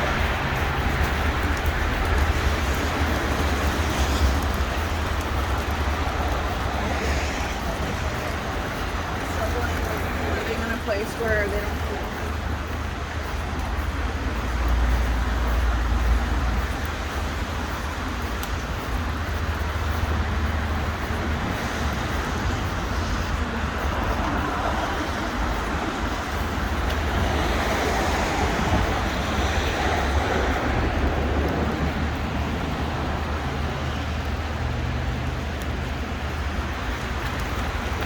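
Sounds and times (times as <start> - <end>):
city street traffic: 0.0 - 38.0.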